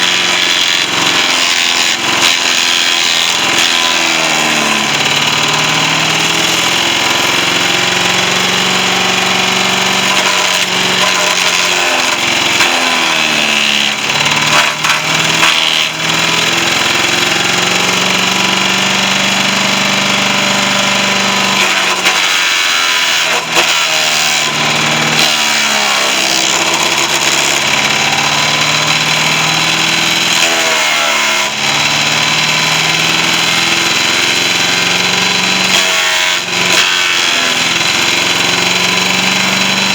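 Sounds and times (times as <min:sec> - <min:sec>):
chipper-shredder engine labouring: 0:00.0 - 0:39.9.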